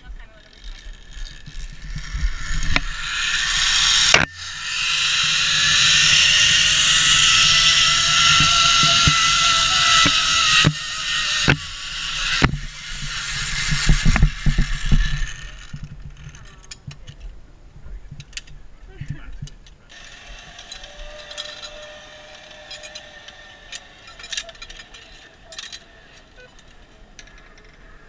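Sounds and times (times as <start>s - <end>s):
zipline pulley hissing and whining: 0.4s - 16.6s, 19.9s - 27.7s.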